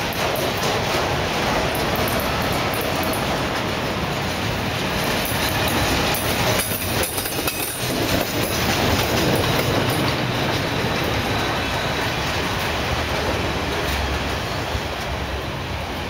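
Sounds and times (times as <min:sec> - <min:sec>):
steel wheels running on rails: 0:00.0 - 0:16.0.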